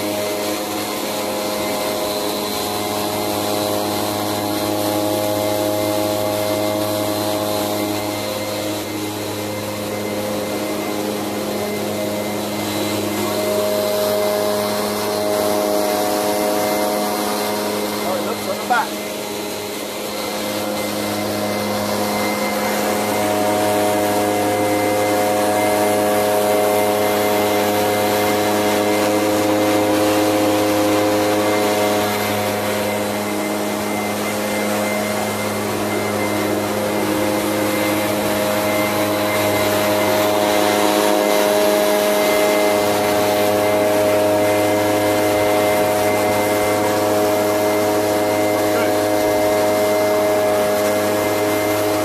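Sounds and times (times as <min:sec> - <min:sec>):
machine hum: 0:00.0 - 0:52.0.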